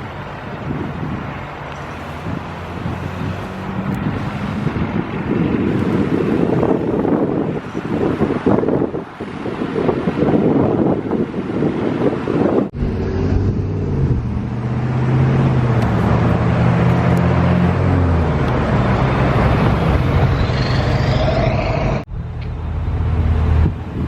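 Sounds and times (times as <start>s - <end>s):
wind on microphone: 0.0s - 22.4s, 23.0s - 24.0s
traffic passing: 0.0s - 24.0s.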